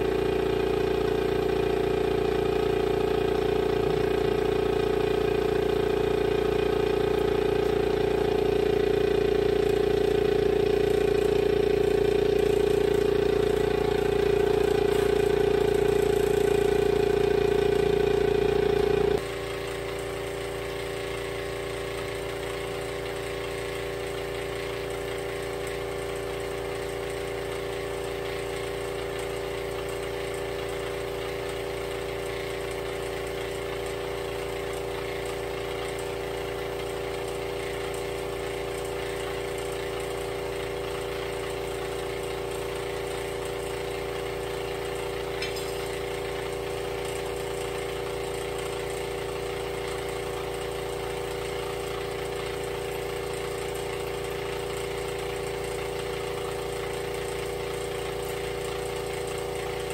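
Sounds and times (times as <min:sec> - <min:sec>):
air compressor humming: 0:00.0 - 0:59.9.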